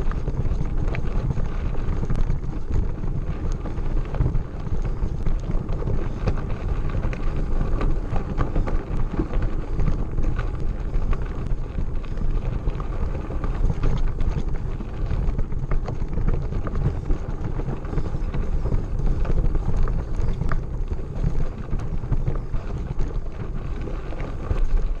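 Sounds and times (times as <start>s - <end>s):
bike clicks and rattles: 0.0s - 25.0s
wind buffeting microphone: 0.0s - 25.0s.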